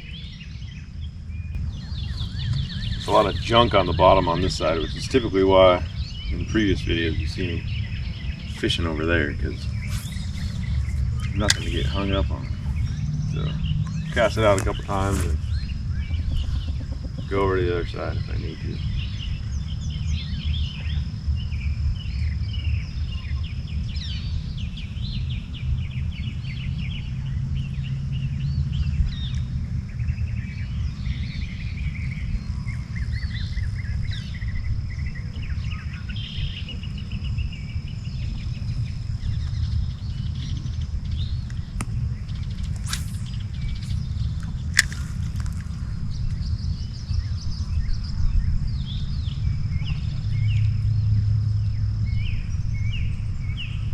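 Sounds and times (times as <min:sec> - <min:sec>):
birds chirping: 0:00.0 - 0:53.9
insects droning: 0:00.0 - 0:53.9
low rumble: 0:00.0 - 0:53.9.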